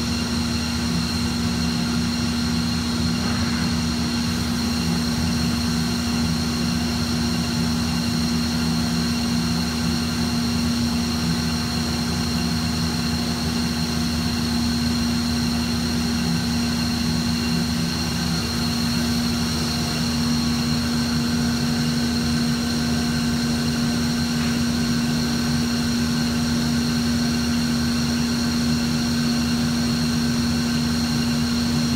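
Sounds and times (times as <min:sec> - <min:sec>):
wood lathe humming and whining: 0:00.0 - 0:31.9.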